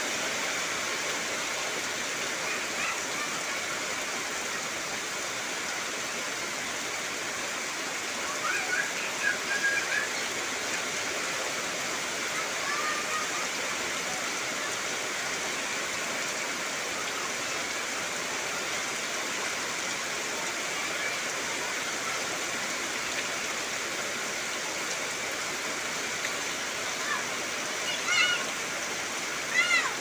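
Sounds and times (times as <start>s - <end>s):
heavy rain on trees: 0.0s - 30.0s.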